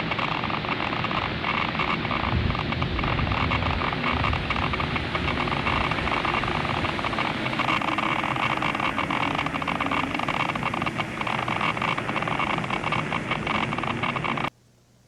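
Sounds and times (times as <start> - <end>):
crackling static hiss: 0.0 - 15.0.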